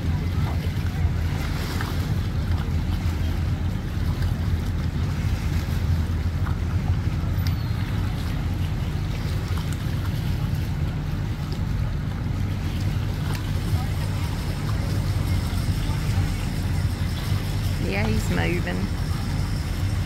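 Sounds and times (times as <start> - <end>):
boat engines idling: 0.0 - 20.0.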